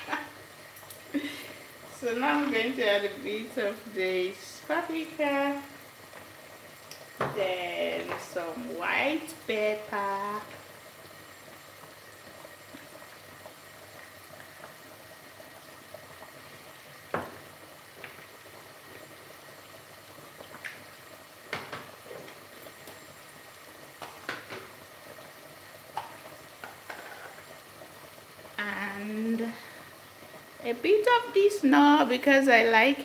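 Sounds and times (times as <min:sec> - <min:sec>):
pot bubbling: 0:00.0 - 0:33.0.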